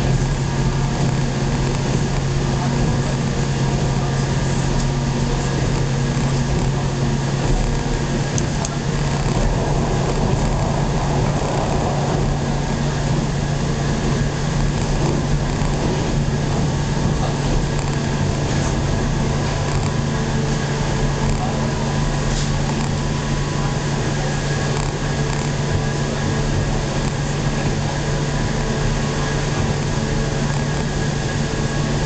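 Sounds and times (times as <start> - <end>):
train carriage low hum: 0.0 - 32.0
train rushing noise: 0.0 - 32.0.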